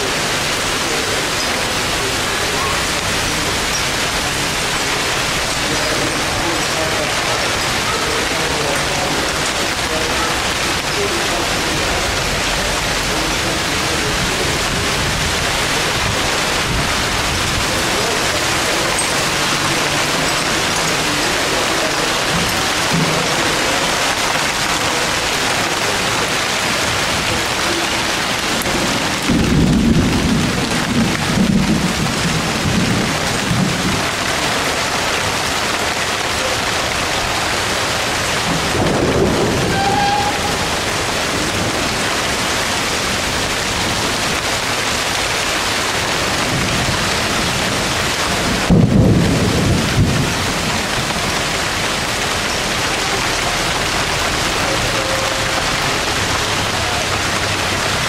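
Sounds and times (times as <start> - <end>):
deep thunder rumbles: 0.0 - 54.9
heavy rain on pavement: 0.0 - 58.0.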